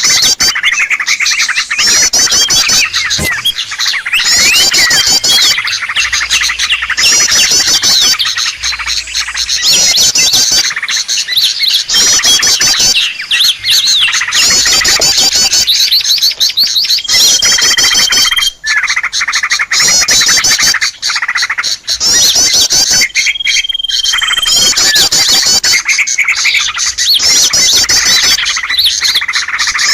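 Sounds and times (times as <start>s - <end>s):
small songbirds chirping: 0.0s - 29.9s.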